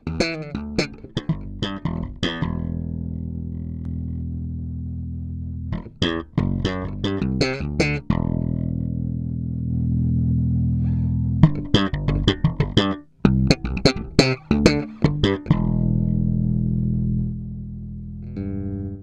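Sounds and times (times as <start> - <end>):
electric bass notes: 0.0 - 19.0.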